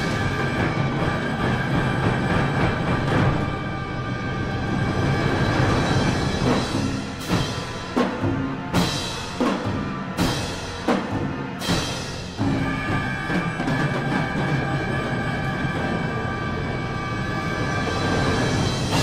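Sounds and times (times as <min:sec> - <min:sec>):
orchestra with trumpets and drums: 0:00.0 - 0:19.0.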